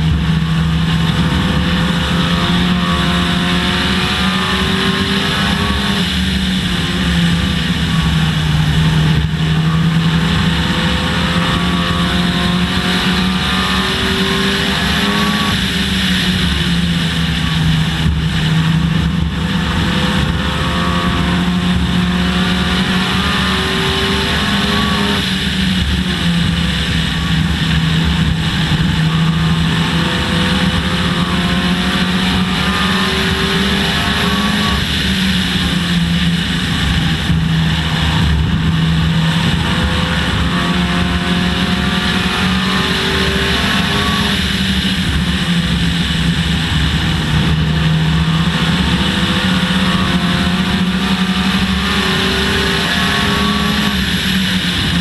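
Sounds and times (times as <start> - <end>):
race car engine running hard: 0.0 - 55.0
wind and road noise: 0.0 - 55.0.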